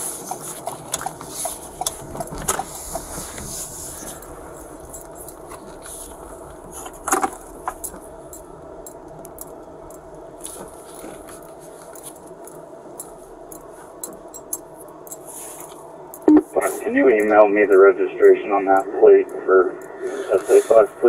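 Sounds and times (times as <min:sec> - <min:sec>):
car cabin hum: 0:00.0 - 0:21.0.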